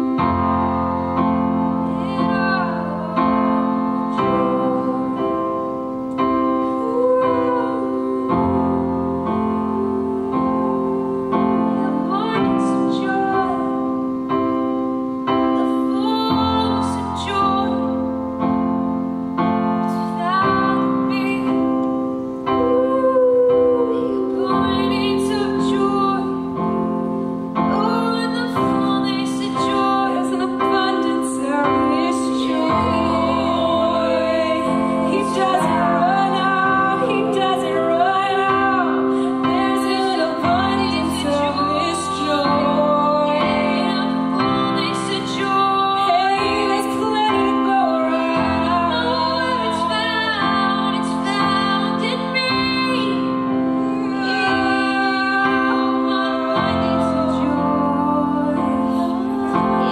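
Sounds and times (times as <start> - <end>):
keyboard piano chords: 0.0 - 59.9
woman singing: 0.0 - 59.9.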